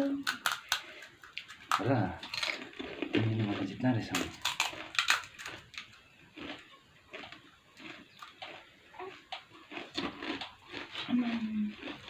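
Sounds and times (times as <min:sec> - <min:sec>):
people chewing and crunching: 0:00.0 - 0:12.0.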